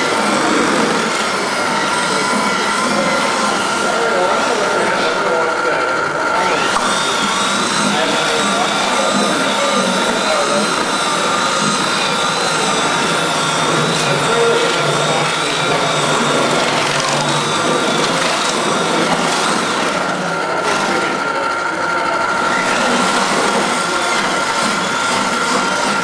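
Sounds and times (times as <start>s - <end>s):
small motor whirring with whine: 0.0s - 26.0s.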